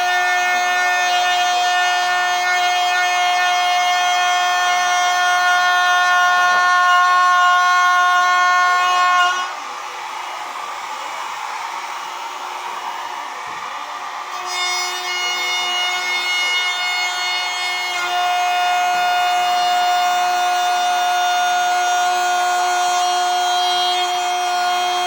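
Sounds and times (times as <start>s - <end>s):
power tool cutting wood: 0.0s - 25.0s.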